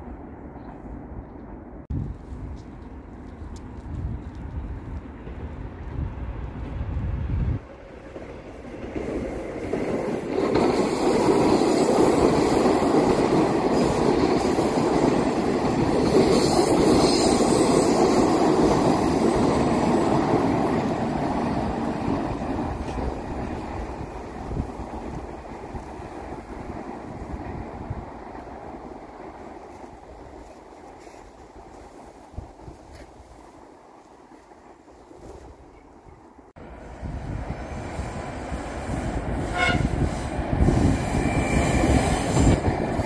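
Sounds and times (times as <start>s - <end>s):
train wheels on rails: 0.6s - 43.0s.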